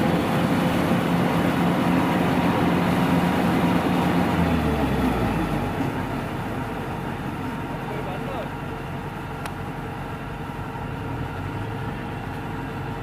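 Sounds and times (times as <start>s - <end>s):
combine harvester engine and threshing: 0.0s - 13.0s.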